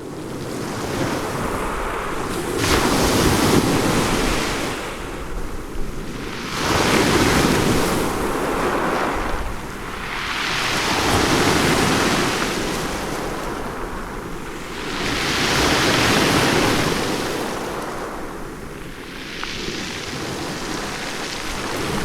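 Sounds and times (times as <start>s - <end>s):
wind noise on microphone: 0.0s - 22.0s
ocean waves crashing: 0.4s - 22.0s.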